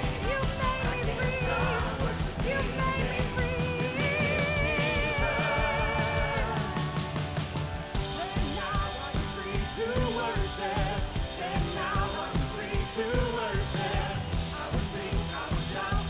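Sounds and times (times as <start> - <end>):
live band playing upbeat song: 0.0 - 16.0
people singing: 0.0 - 16.0
steady drum beat: 0.0 - 16.0.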